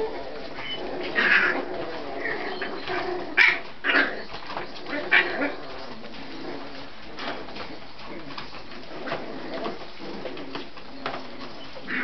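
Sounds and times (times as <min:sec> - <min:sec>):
puppies yapping: 0:00.0 - 0:12.0.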